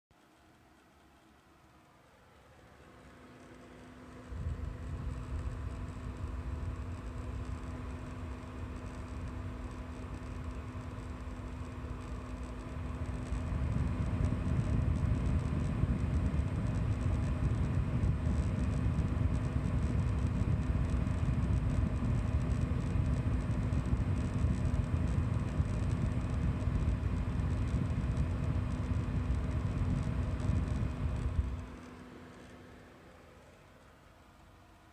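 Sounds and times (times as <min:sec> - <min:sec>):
power supply coil whine: 0:00.2 - 0:34.9.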